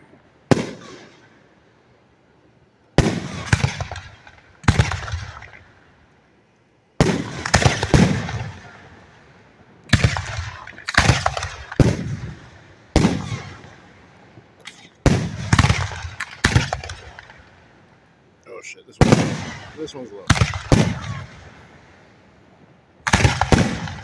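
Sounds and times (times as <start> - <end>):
firework shells booming: 0.0 - 1.6, 3.0 - 6.2, 7.0 - 18.1, 18.9 - 22.4, 23.0 - 24.0.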